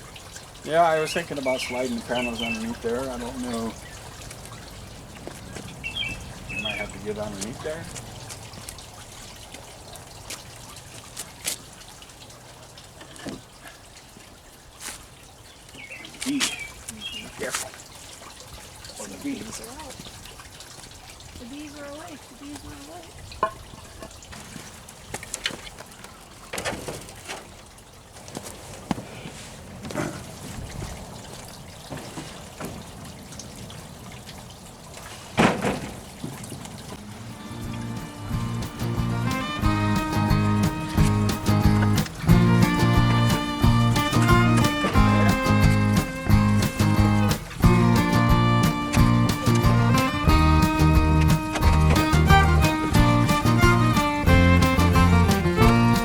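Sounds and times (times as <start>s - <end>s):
pond water trickling: 0.0s - 56.0s.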